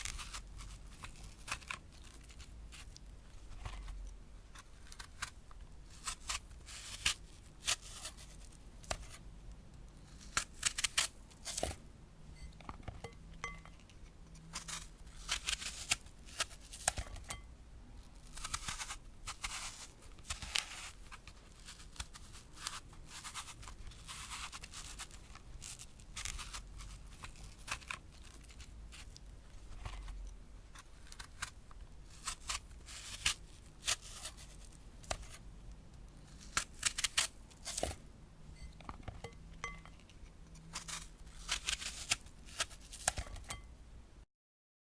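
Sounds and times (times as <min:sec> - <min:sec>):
apple being cut crunching: 0:00.0 - 0:09.2, 0:10.0 - 0:11.8, 0:13.0 - 0:17.4, 0:18.2 - 0:35.4, 0:36.1 - 0:38.1, 0:38.8 - 0:43.6.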